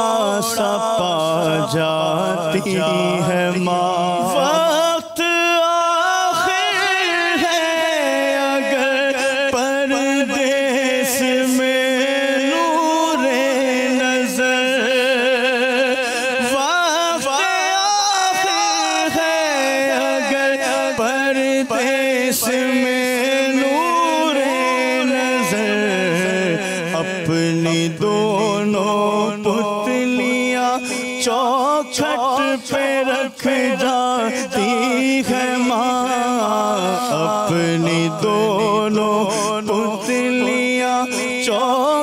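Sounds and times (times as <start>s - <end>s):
person singing wordless melody: 0.0s - 42.0s.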